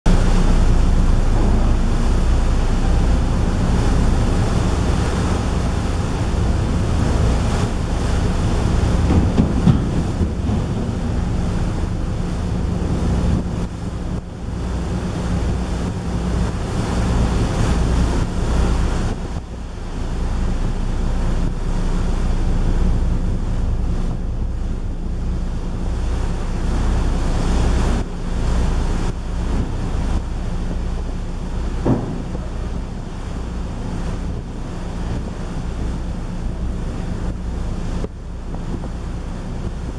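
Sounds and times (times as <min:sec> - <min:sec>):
sea water rushing: 0:00.1 - 0:39.9
ship engines droning: 0:00.1 - 0:39.9
wind buffeting microphone: 0:00.1 - 0:39.9.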